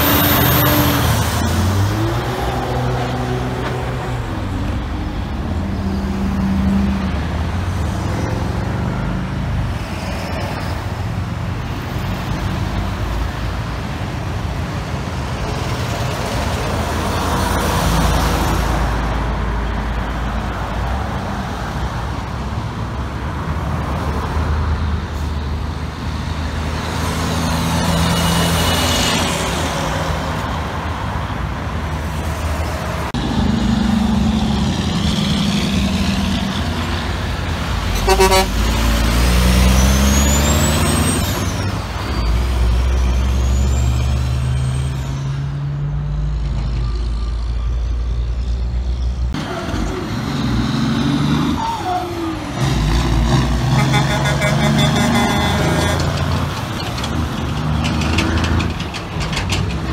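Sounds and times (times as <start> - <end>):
trucks and cars passing: 0.0 - 59.9.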